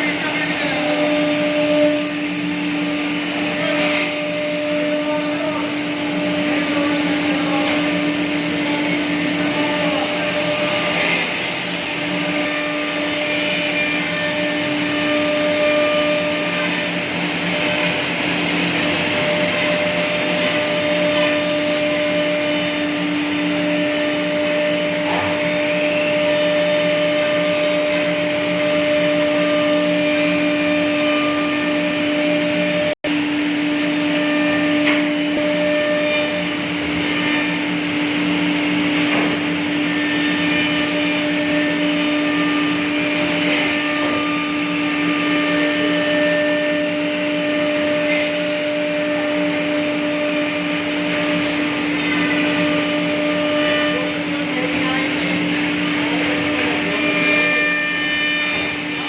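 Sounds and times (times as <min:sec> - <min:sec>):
wood router spindle hum: 0:00.0 - 0:59.0.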